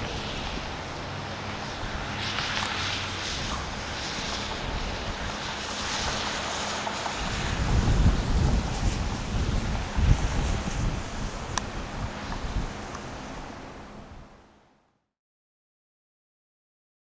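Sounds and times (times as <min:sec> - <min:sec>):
wind buffeting microphone: 0:00.0 - 0:14.4
rushing water: 0:00.0 - 0:14.5
ship engine drone: 0:00.0 - 0:14.8.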